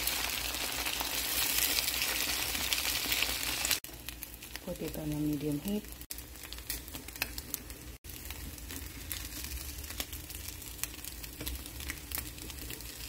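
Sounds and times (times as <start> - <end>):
pancake sizzling in a pan: 0.0 - 5.0, 5.6 - 13.0.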